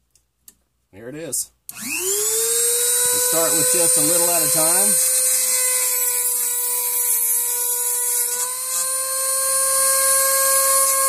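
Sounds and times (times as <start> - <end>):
rotary tool whining: 1.7 - 11.0.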